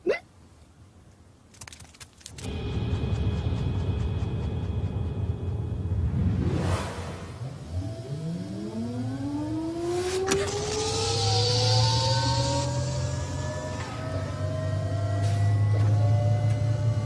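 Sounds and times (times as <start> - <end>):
low hum: 2.2 - 17.0
rising motor whine: 2.4 - 17.0.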